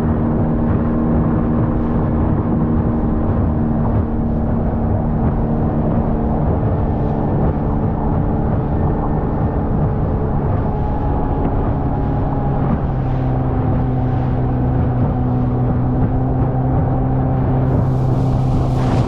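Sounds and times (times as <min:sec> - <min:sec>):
outboard motor drone: 0:00.0 - 0:19.0
rushing wind: 0:00.0 - 0:19.0
water noise: 0:00.0 - 0:19.0.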